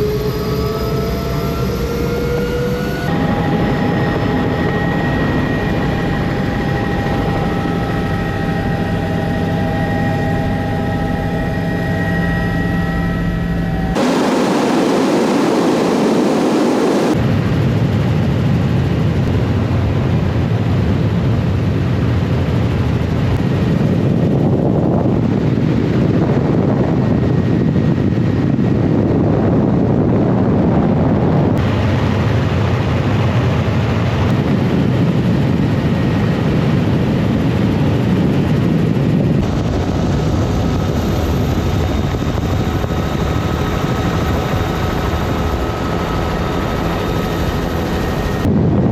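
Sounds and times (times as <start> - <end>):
helicopter rotor and turbine drone: 0.0 - 18.0, 21.3 - 48.9.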